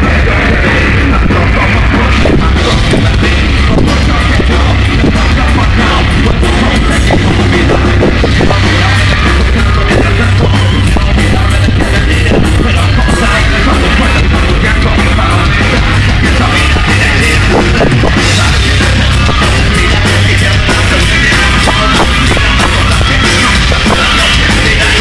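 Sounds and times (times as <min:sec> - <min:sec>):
live rock band playing: 0:00.0 - 0:25.0
person singing: 0:00.0 - 0:25.0.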